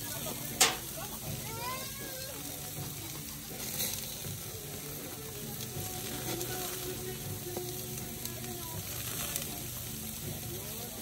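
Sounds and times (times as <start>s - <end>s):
patties sizzling on a grill: 0.0s - 11.0s.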